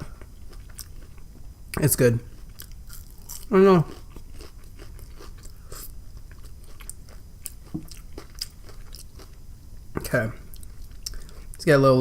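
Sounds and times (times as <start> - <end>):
chewing crunchy food: 0.0 - 11.7.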